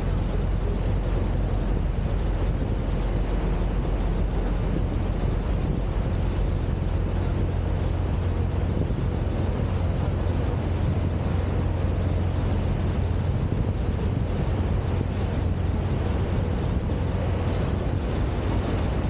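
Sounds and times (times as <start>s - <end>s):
boat engine humming: 0.0s - 19.0s
wind buffeting microphone: 0.0s - 19.0s.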